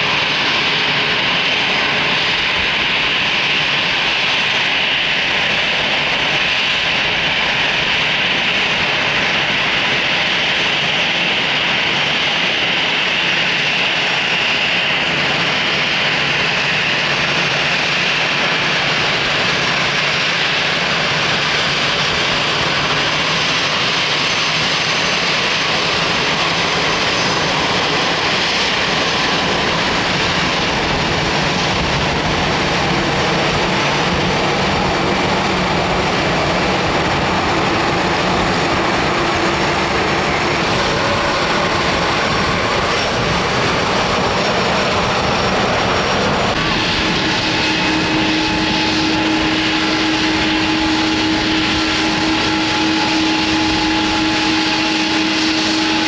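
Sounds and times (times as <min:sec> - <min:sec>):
jet engines with high whine: 0:00.0 - 0:56.0.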